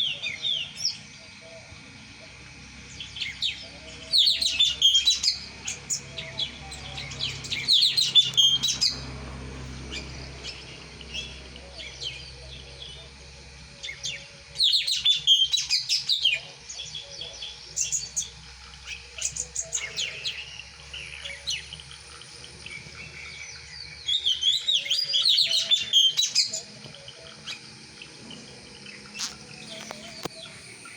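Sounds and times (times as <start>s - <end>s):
songbird singing: 0.0s - 30.9s.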